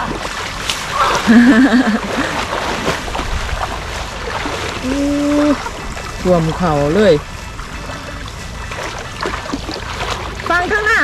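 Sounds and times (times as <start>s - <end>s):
rushing floodwater splashing: 0.0s - 11.0s.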